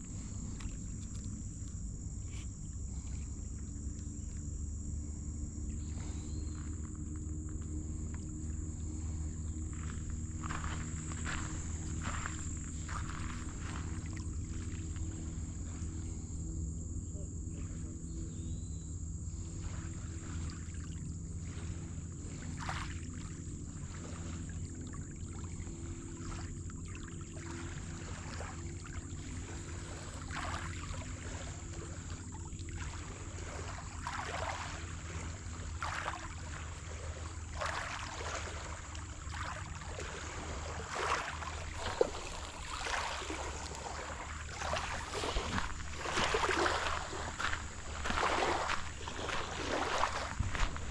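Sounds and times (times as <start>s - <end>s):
boat motor running: 0.0s - 50.9s
high-pitched hum: 0.0s - 50.9s
scuffs and splashes: 5.8s - 16.3s, 19.3s - 50.9s.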